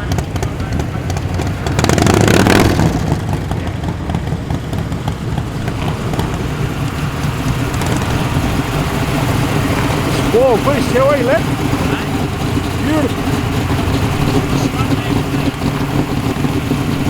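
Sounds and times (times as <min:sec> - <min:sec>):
car engine driving past: 0:00.0 - 0:17.0.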